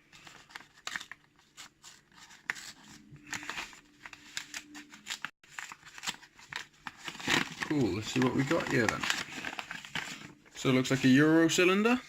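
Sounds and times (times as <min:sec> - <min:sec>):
packaging crinkling and tearing: 0:00.1 - 0:10.9.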